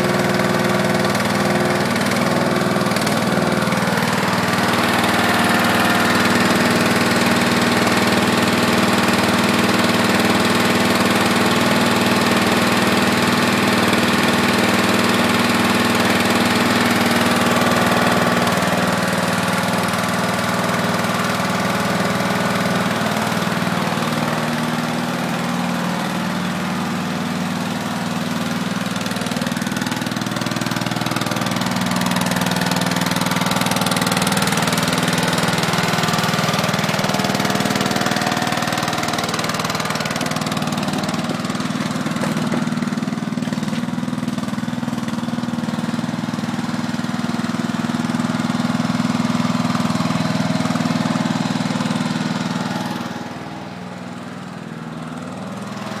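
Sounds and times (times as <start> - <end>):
garden tractor engine idling: 0.0 - 56.0.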